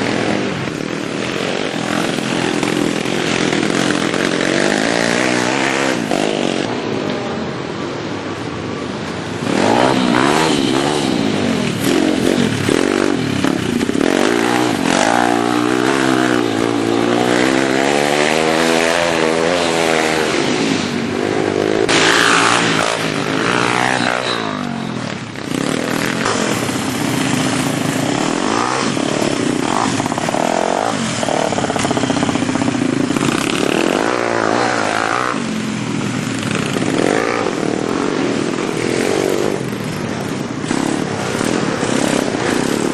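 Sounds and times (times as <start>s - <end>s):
small motorbike engine revving: 0.0s - 6.8s, 9.4s - 35.6s, 40.6s - 42.9s.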